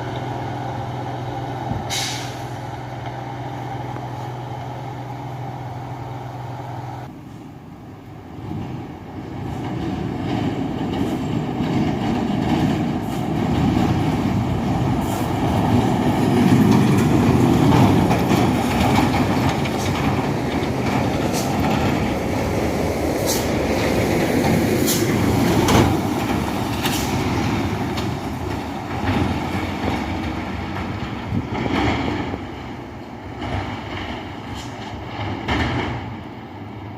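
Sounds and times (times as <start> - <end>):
diesel truck engine working hard: 0.0 - 36.9.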